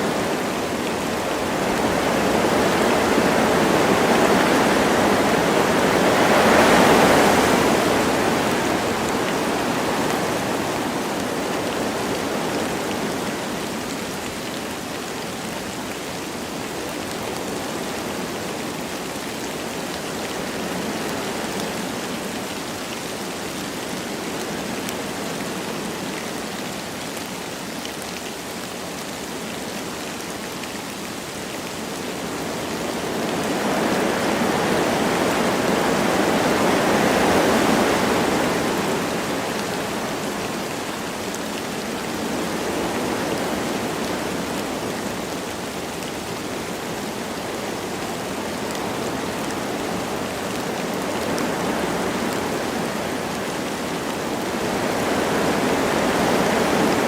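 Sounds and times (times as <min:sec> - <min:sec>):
light rain falling: 0:00.0 - 0:57.0
wind rushing through trees: 0:00.0 - 0:57.0.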